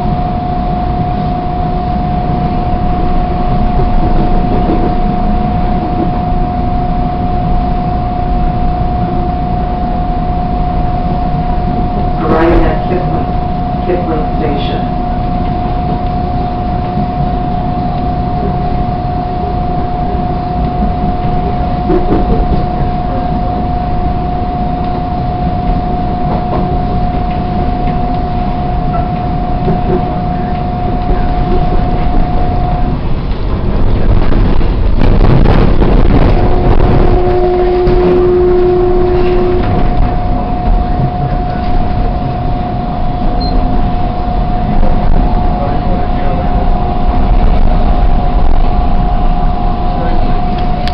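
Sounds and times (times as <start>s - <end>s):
brief lower tone: 0.0s - 33.2s, 35.2s - 50.9s
constant high whine: 0.0s - 50.9s
rush of track noise: 0.0s - 50.9s
train wheels rumbling on rails: 0.0s - 50.9s.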